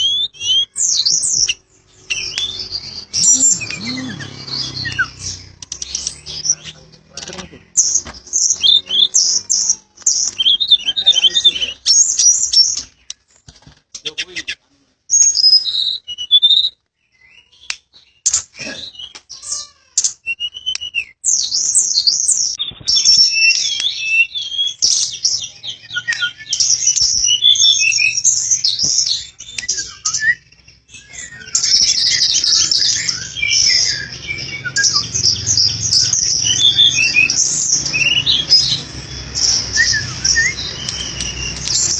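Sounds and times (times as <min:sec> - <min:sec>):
flycatcher singing: 0:00.0 - 0:13.3, 0:15.1 - 0:41.9.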